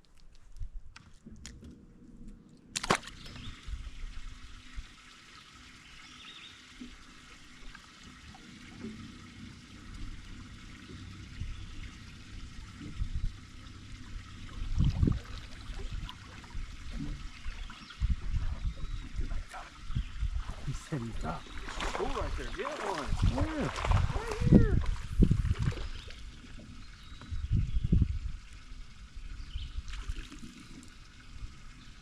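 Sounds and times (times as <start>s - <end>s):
water trickling: 3.1s - 32.0s.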